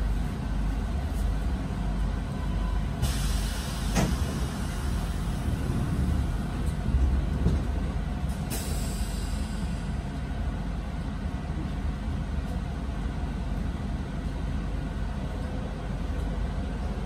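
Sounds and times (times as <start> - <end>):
train equipment low rumble: 0.0 - 17.0.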